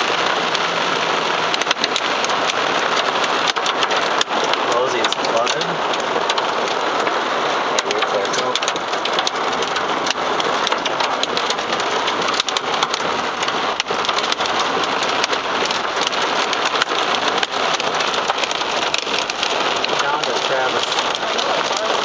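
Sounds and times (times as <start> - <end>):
heavy rain on a car: 0.0 - 22.0.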